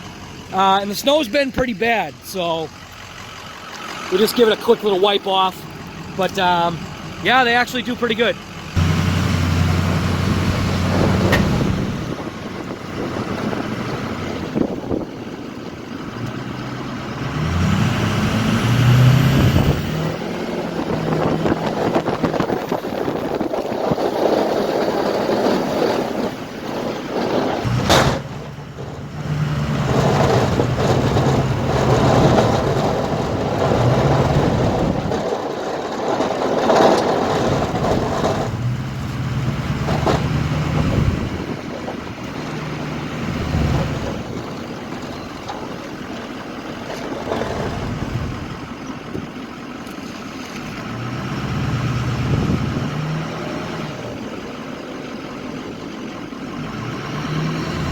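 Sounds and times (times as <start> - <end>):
truck engine revving: 0.0 - 57.9.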